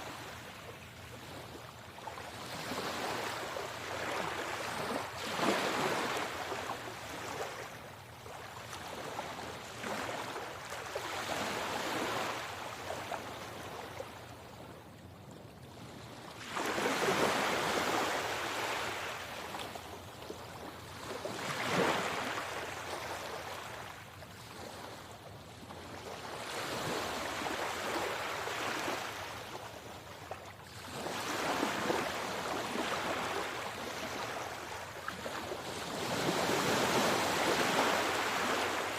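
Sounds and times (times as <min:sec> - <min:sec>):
sea waves breaking on shore: 0:00.0 - 0:15.1, 0:15.7 - 0:38.9.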